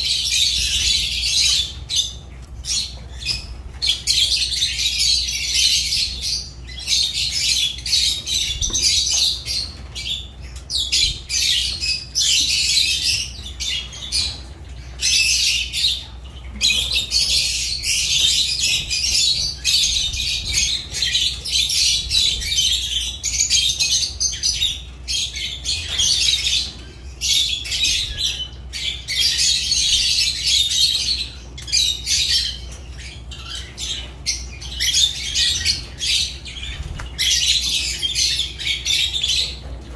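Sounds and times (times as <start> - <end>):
lovebirds squawking and chirping: 0.0 - 39.9.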